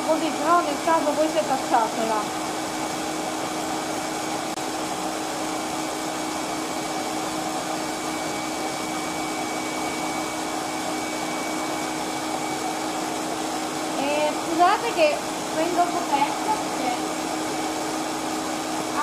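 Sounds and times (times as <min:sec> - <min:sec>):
mixer motor whir: 0:00.0 - 0:19.0
stand mixer whisk beating batter: 0:00.0 - 0:19.0.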